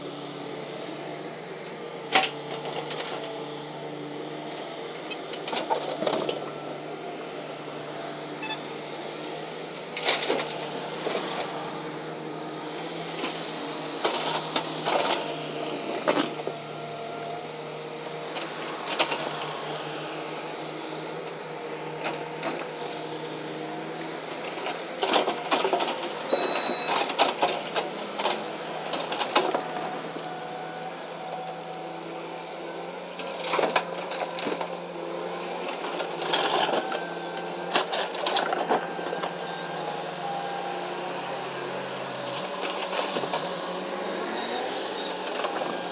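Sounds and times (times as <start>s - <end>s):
excavator engine hum: 0.0s - 45.9s
hydraulic whines: 0.0s - 45.9s.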